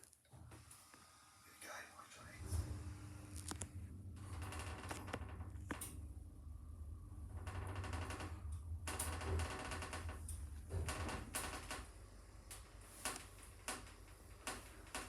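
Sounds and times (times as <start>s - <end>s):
lift motor hum with rattling ticks: 2.4s - 15.0s.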